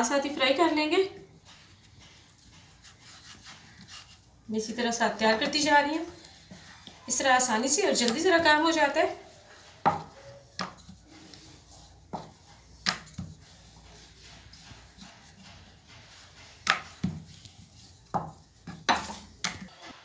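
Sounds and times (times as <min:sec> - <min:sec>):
rolling pin rolling dough: 0:00.0 - 0:19.8.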